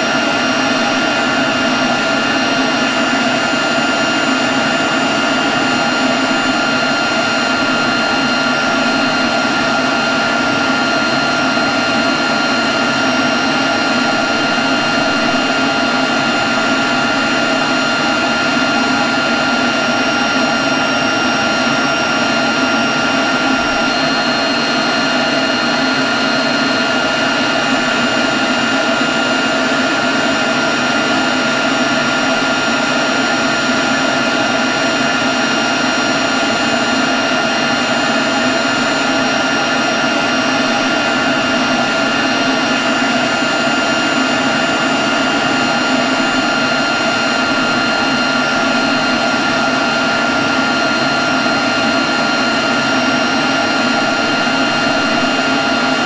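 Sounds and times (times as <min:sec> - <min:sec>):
leaf blower running: 0:00.0 - 0:56.0.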